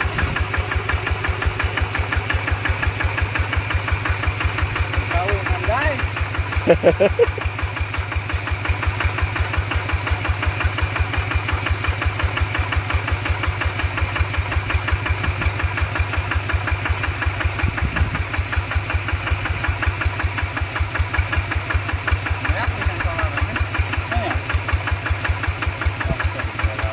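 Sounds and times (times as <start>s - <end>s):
diesel engine chugging: 0.0s - 26.9s.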